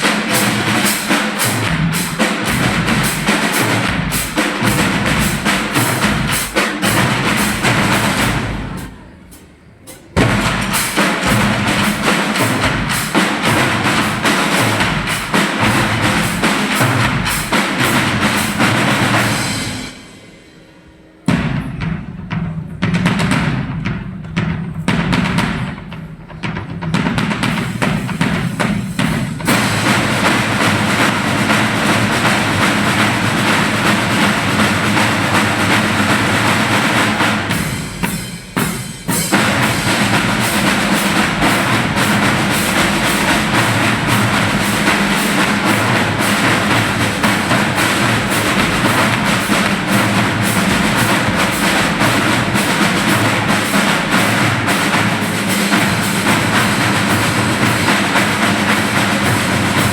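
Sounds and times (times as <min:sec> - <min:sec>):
drum percussion music: 0:00.0 - 0:59.9.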